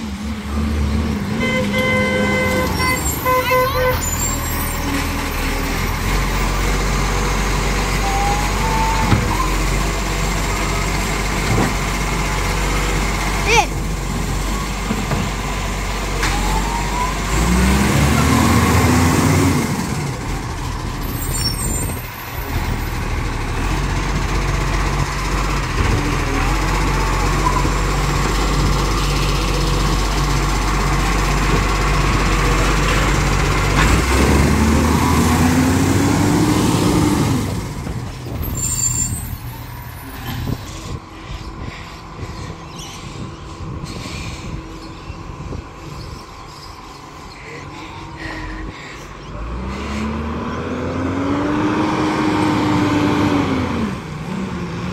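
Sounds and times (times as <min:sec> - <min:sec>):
diesel truck engine revving: 0:00.0 - 0:54.9.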